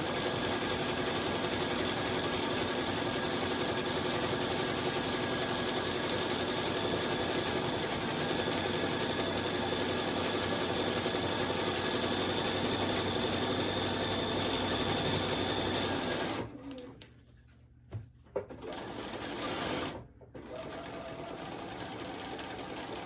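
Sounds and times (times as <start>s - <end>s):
sewing machine stitching: 0.0s - 17.0s, 18.5s - 23.0s.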